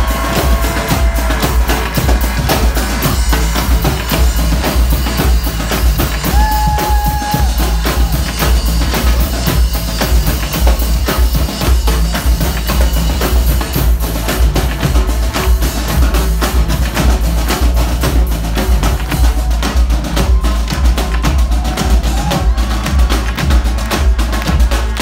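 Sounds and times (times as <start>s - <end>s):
marching drums beating: 0.0s - 25.0s.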